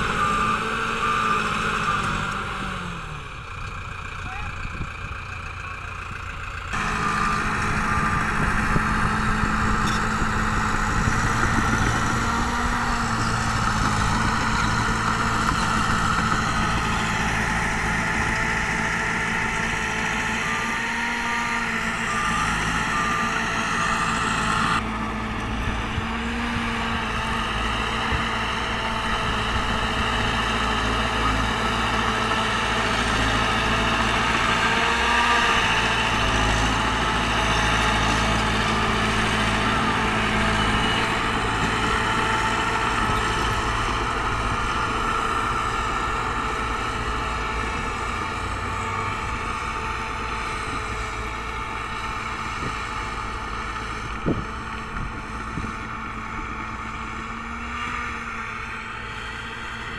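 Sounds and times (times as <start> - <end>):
bulldozer diesel engine running: 0.0 - 59.9
rumble of bulldozer tracks: 0.0 - 59.9.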